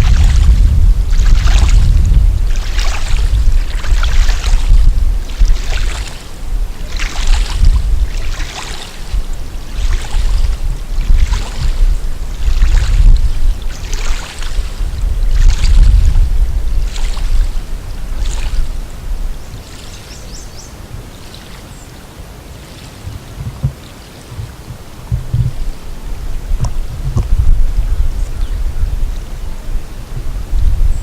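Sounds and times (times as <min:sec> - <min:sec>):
wind buffeting microphone: 0:00.0 - 0:21.2, 0:23.0 - 0:31.0.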